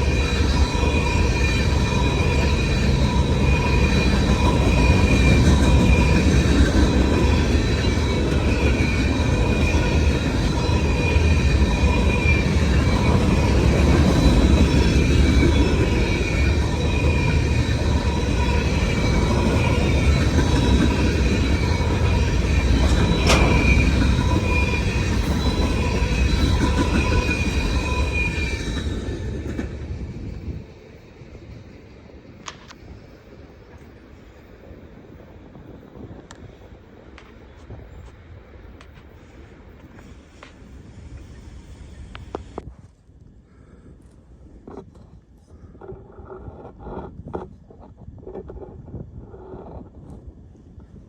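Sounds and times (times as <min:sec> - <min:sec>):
freight train rumbling past: 0:00.0 - 0:42.6.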